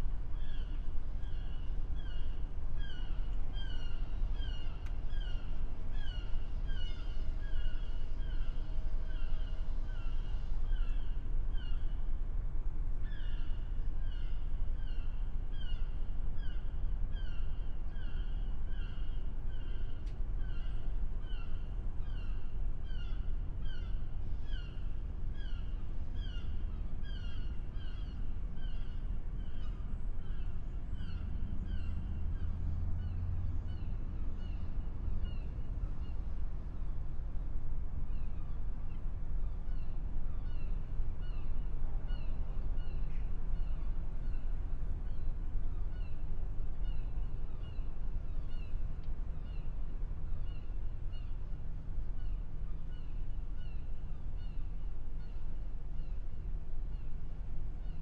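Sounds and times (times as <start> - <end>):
low harbor rumble: 0.0 - 58.0.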